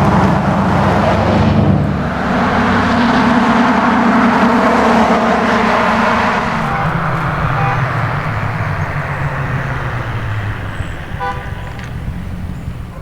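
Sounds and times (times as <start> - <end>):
truck engine driving by: 0.0 - 13.0.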